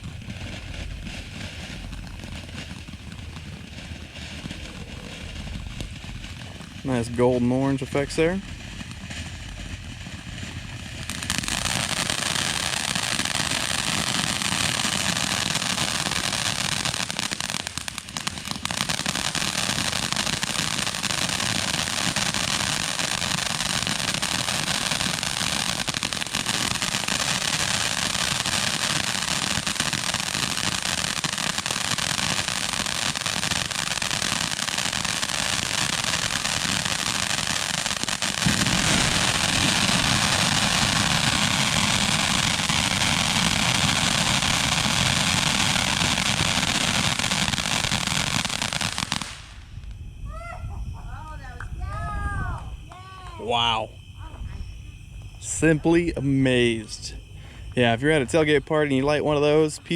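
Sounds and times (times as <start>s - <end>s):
firework fountain crackling: 0.0s - 59.9s
firework hissing: 0.0s - 59.9s.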